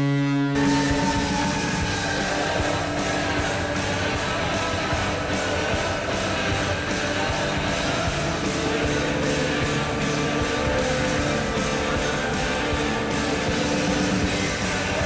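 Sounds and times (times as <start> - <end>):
rock song with electric guitar: 0.0 - 15.0.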